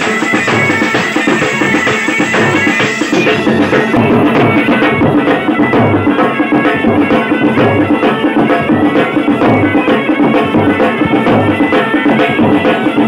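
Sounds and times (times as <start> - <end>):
steady repeating drumbeat: 0.0 - 13.0.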